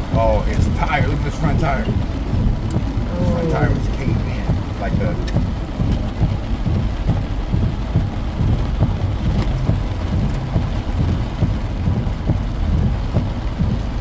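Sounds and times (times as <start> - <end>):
heavy rain: 0.0 - 14.0
uneven low rumble: 0.0 - 14.0.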